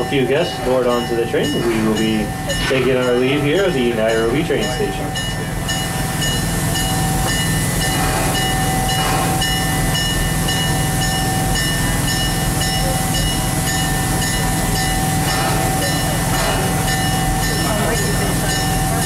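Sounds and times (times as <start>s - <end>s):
locomotive bell ringing: 0.0s - 19.0s
train engine rumble: 0.0s - 19.0s.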